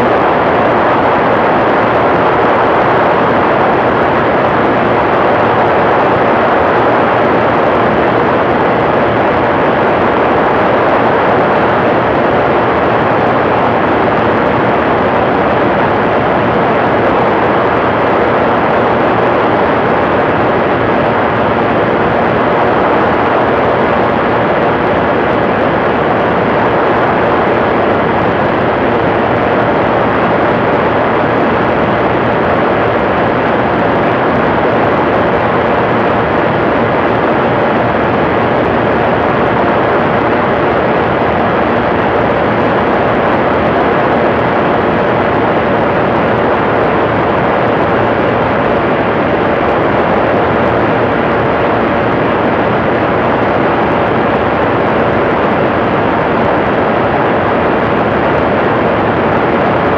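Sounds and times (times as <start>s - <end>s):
ultralight aircraft engine: 0.0s - 59.9s.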